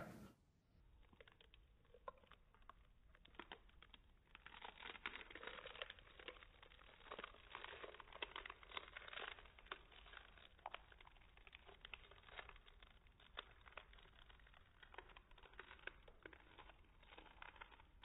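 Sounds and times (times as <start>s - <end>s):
child chewing crisp seaweed: 0.9s - 18.0s.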